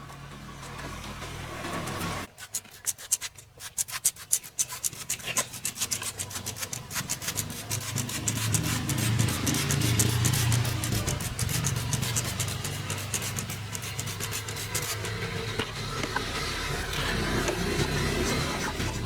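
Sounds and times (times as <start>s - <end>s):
stiff brush scrubbing: 0.6s - 19.0s.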